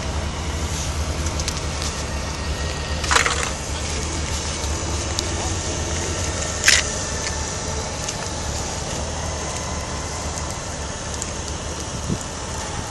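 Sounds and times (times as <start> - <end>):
motorcycle rolling slowly: 0.0 - 12.9
motorcycles idling: 0.0 - 12.9.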